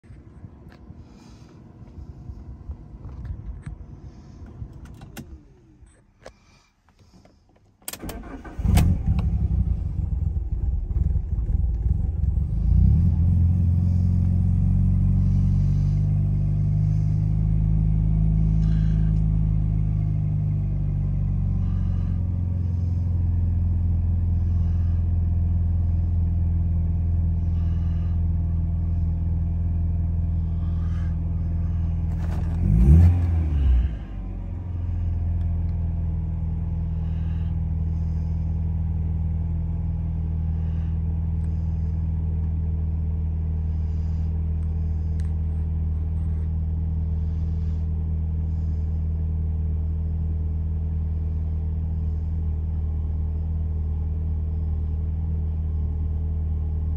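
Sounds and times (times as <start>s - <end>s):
car engine cranking and idling: 0.0s - 56.9s.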